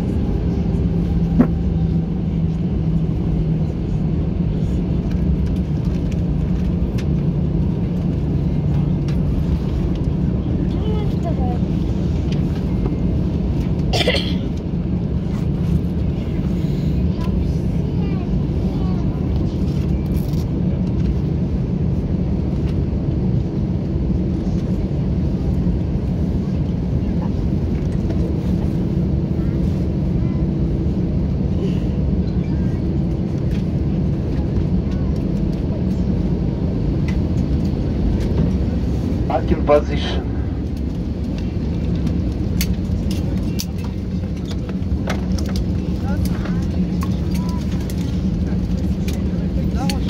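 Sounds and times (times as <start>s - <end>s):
aircraft cabin low rumble: 0.0s - 50.0s
jet engines idling hum: 0.0s - 50.0s.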